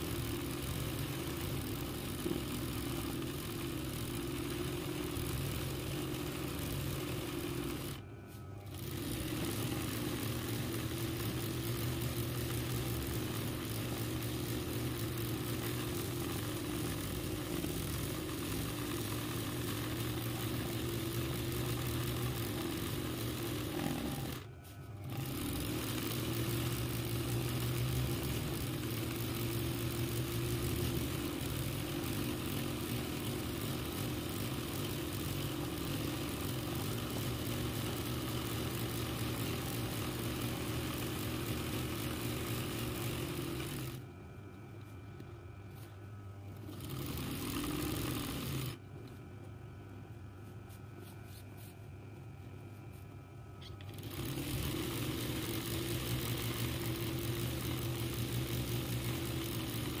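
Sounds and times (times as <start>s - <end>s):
embroidery machine stitching: 0.0s - 8.0s, 8.6s - 44.0s, 46.5s - 48.8s, 53.6s - 60.0s.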